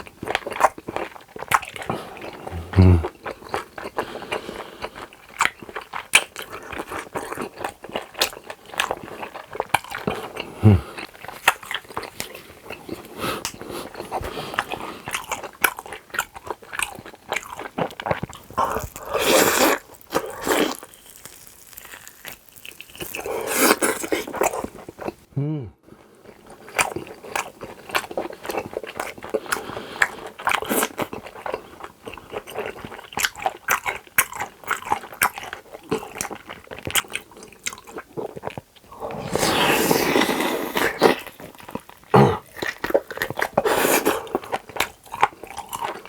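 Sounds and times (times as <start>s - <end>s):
close chewing and eating: 0.0s - 46.0s.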